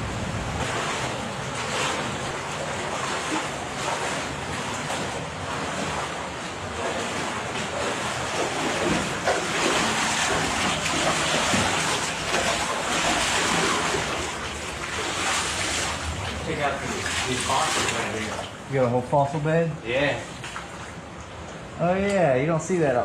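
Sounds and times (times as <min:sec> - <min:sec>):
cave stream rushing water: 0:00.2 - 0:18.9.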